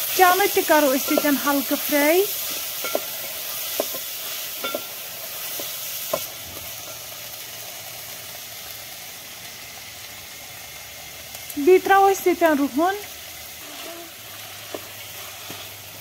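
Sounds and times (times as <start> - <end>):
chickpeas sizzling in oil: 0.0 - 16.0.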